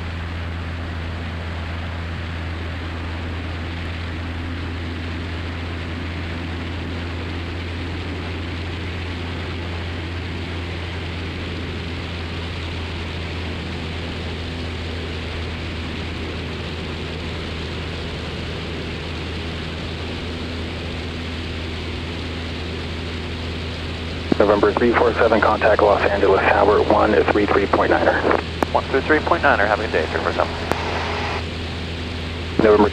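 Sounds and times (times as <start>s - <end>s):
propeller plane engine droning: 0.0s - 32.9s.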